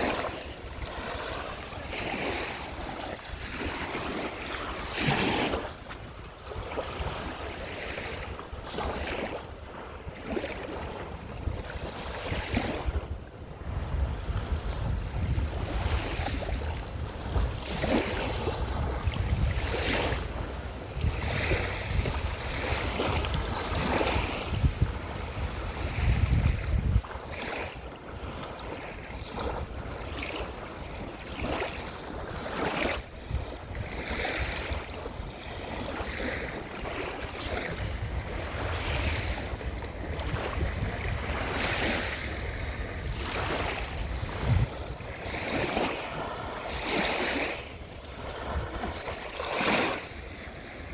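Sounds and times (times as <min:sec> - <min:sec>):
ocean waves washing onto beach: 0:00.0 - 0:50.9
wind rumbling on microphone: 0:00.0 - 0:50.9.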